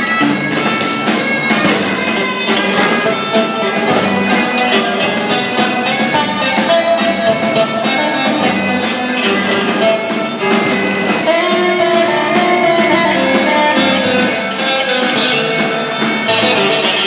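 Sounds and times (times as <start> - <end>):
plucked guitar: 0.0 - 17.0
tambourine jingles: 0.0 - 17.0.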